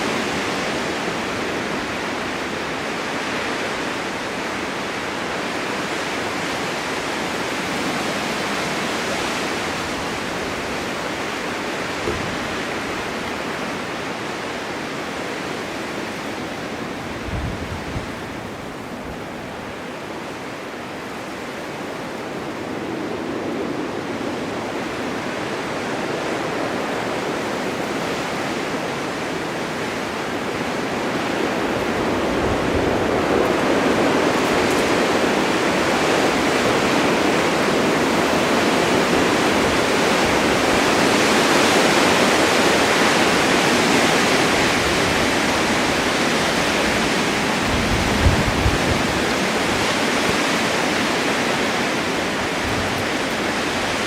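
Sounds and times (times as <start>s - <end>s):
blizzard wind rushing: 0.0s - 54.0s.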